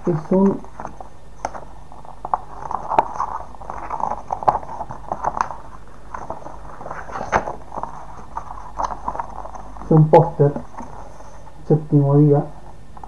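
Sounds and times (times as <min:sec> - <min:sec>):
sharp paper crackles: 0:00.0 - 0:11.5
paper rustling and crinkling: 0:00.0 - 0:11.6.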